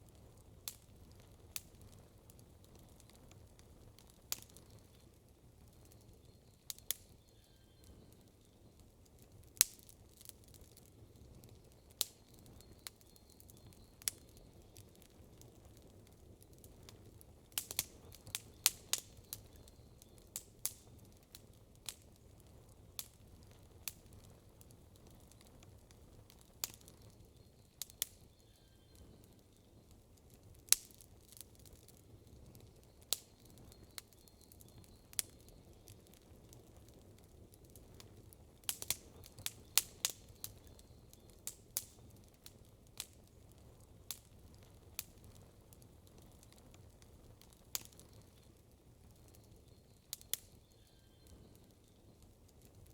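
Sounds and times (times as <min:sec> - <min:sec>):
campfire crackling and popping: 0:00.0 - 0:52.9
faint low fire rumble: 0:00.0 - 0:52.9.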